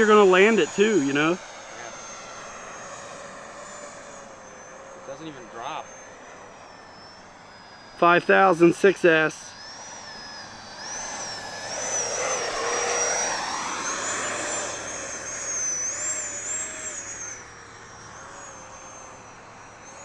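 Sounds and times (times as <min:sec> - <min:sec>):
rc jet ducted fan whining: 0:00.0 - 0:20.0.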